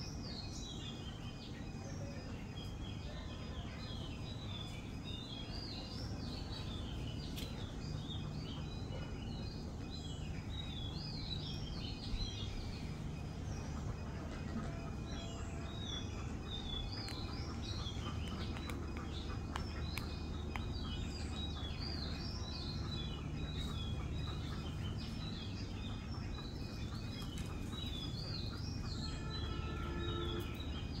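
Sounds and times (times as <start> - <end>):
small birds chirping: 0.0 - 31.0
steady low background noise: 0.0 - 31.0.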